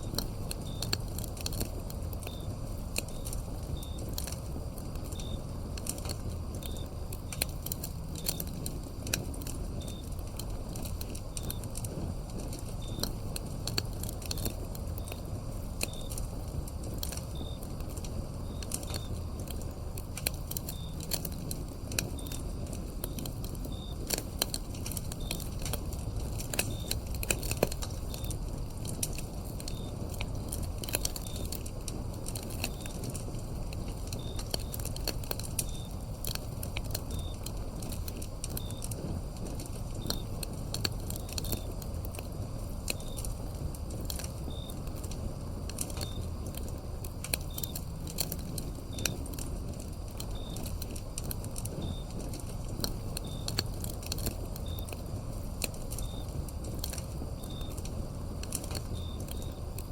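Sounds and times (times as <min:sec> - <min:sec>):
crickets chirping: 0:00.0 - 0:59.9
wood fire crackling and popping: 0:00.0 - 0:59.9.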